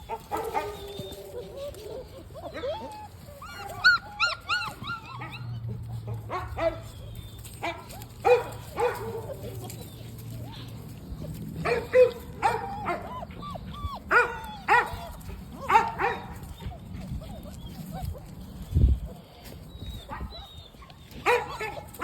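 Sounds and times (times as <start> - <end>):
puppies whining and yelping: 0.0 - 22.0.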